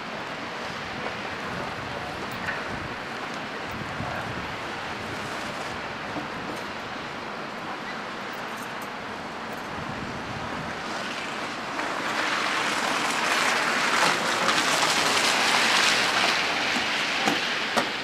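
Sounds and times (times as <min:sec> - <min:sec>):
bus tyres hissing through slush: 0:00.0 - 0:18.0.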